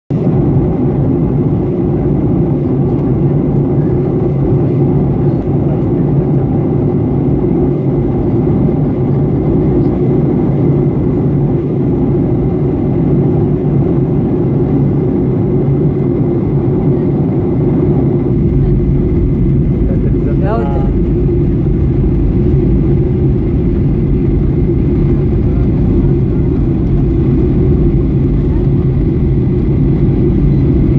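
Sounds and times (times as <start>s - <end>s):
airliner cabin drone: 0.1s - 30.9s.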